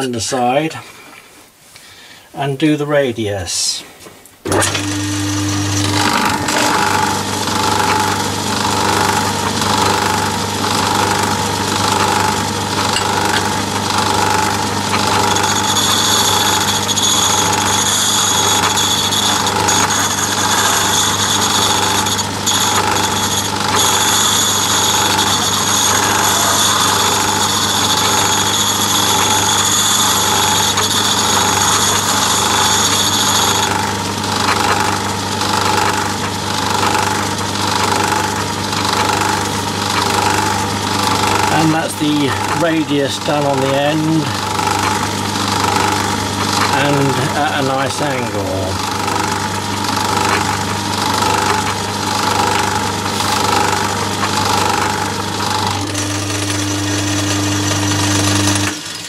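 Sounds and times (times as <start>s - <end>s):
high whine of tool on wheel: 4.5s - 59.0s
lathe running with low hum: 4.5s - 59.0s.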